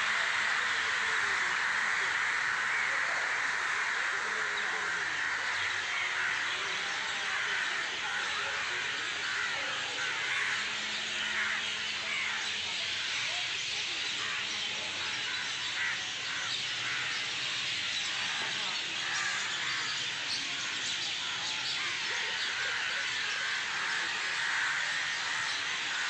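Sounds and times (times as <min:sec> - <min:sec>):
flock of birds calling: 0:00.0 - 0:26.0
crow-like cawing: 0:00.3 - 0:13.3, 0:14.2 - 0:26.0.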